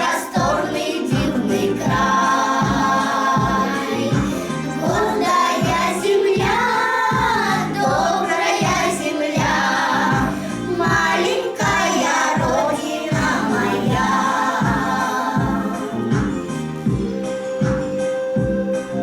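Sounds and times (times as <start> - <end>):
children singing: 0.0 - 18.9
backing track with steady beat: 0.0 - 19.0.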